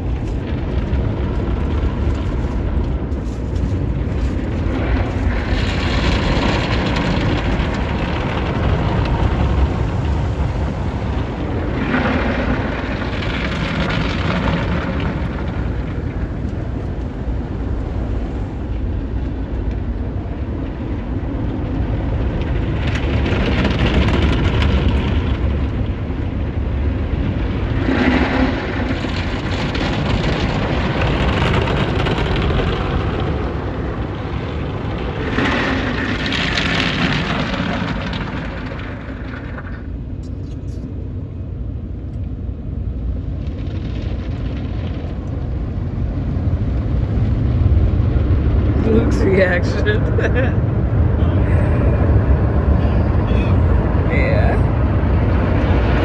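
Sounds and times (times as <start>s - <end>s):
car wash machinery rumbling: 0.0s - 56.0s.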